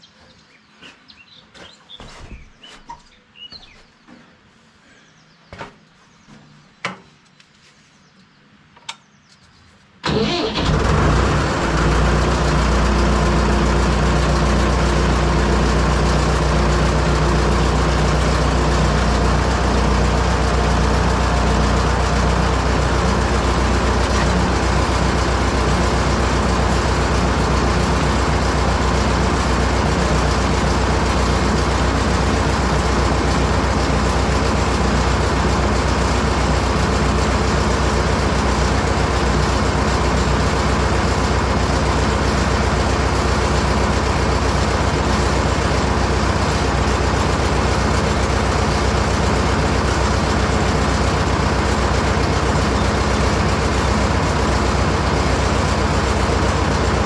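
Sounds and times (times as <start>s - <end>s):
tractor engine running: 10.0s - 57.0s.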